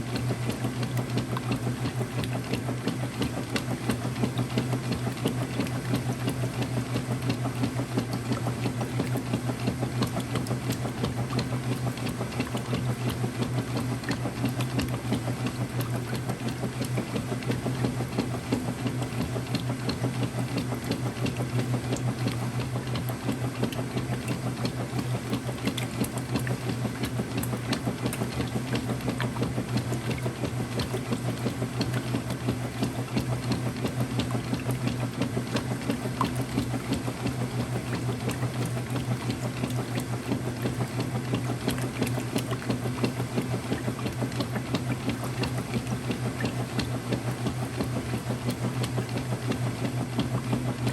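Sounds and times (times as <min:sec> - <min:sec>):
washing machine motor hum: 0:00.0 - 0:50.9.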